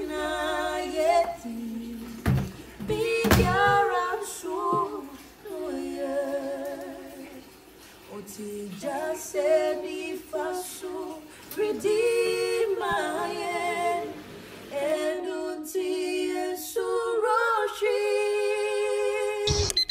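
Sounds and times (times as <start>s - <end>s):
woman singing: 0.0s - 7.5s, 8.1s - 19.7s.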